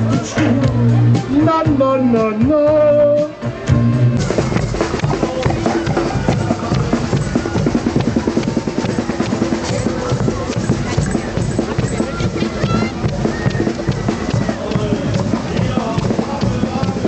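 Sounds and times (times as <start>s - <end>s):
marching band playing: 0.0s - 17.0s
music with singing over loudspeakers: 0.0s - 17.0s.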